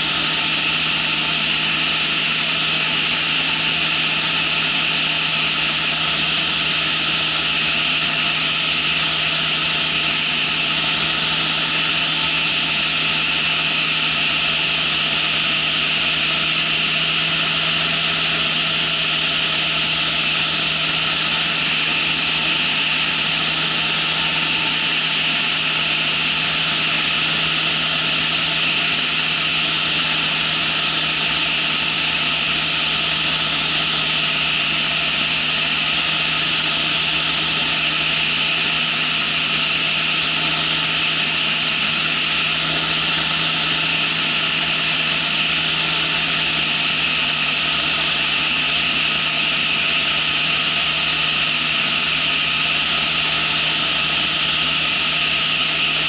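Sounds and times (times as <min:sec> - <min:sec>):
aircraft engine and propeller: 0:00.0 - 0:56.0.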